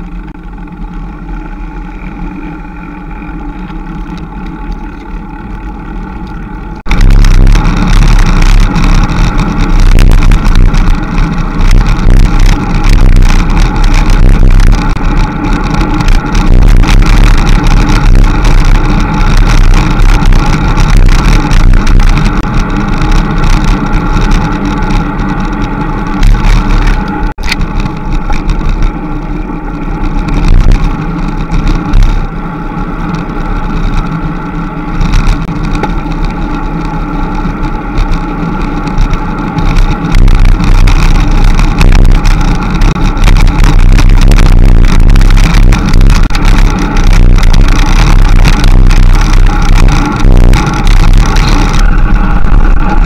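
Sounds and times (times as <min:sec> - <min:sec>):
bicycle tyres rumbling on asphalt: 0:00.0 - 0:53.0
wind rushing over microphone: 0:00.0 - 0:53.0.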